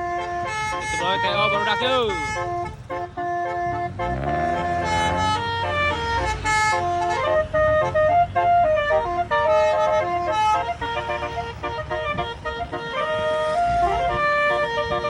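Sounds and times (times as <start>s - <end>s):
melody horn playing tune: 0.0s - 15.0s.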